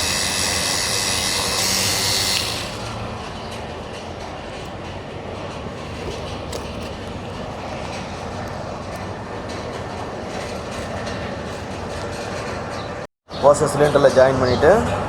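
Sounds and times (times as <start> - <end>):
machinery rumbling: 0.0 - 15.0.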